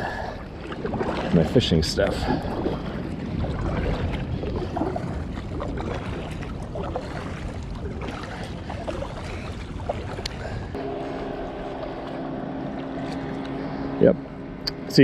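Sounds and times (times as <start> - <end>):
kayak paddle splashing water: 0.0 - 14.0
wind rumble on microphone: 0.0 - 15.0.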